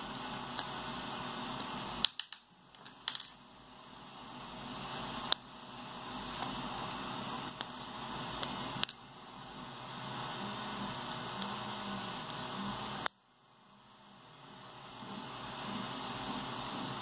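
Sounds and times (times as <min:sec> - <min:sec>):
steady hiss: 0:00.0 - 0:02.7, 0:03.6 - 0:17.0.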